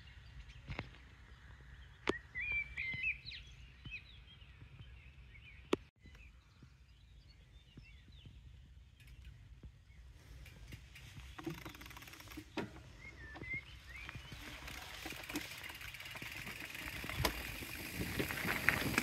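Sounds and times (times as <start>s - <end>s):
songbirds chirping and warbling: 0.0s - 19.0s.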